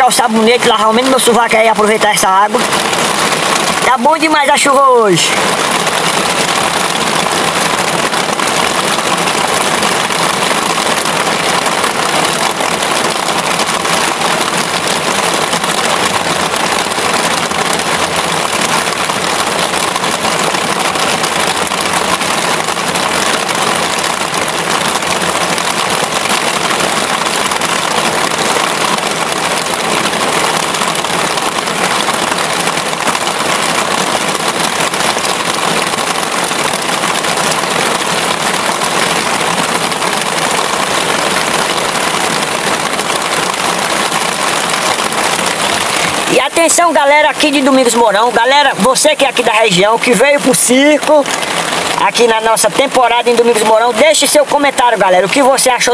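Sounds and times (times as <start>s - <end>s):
heavy rain on a canvas tent: 0.0s - 55.9s.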